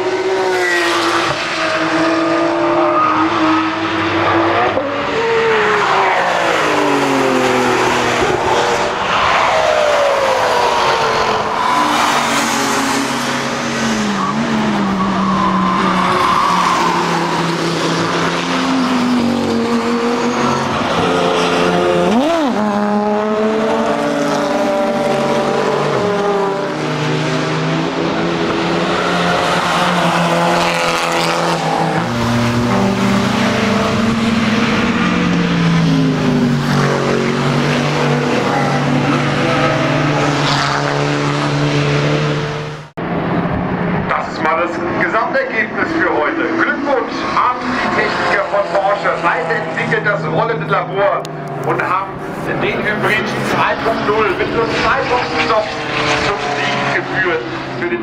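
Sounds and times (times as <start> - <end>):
racing car engines passing: 0.0 - 58.0.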